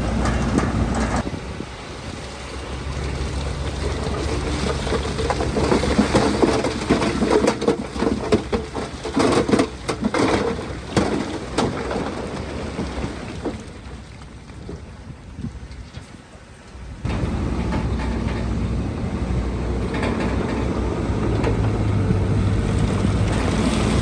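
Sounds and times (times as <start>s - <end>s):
low rumble of sliding dirt: 0.0s - 24.0s.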